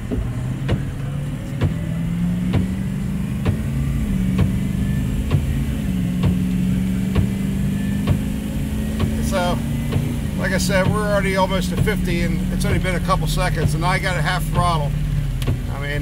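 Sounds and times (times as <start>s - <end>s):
windshield wipers knocking: 0.0s - 15.8s
diesel truck engine accelerating: 0.0s - 16.0s.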